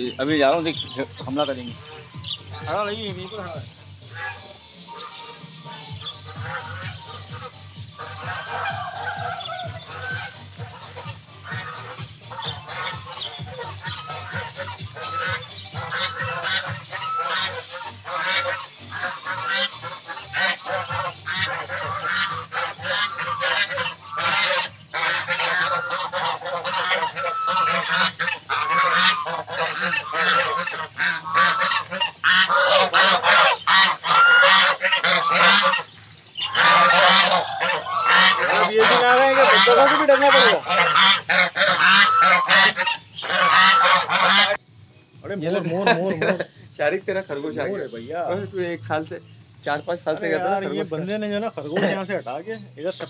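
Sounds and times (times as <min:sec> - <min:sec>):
geese honking: 0:00.0 - 0:44.7, 0:45.3 - 0:53.0.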